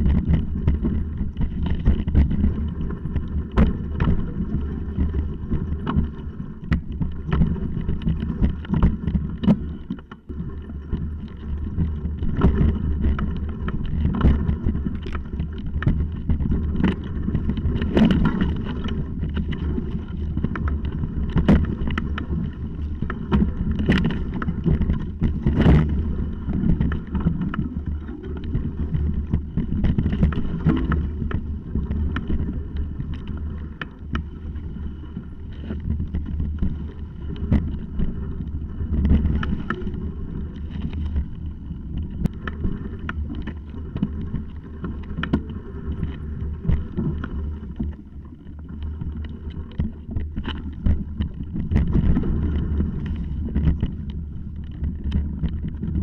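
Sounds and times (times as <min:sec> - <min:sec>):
bike tyres rumbling on stones: 0:00.0 - 0:56.0.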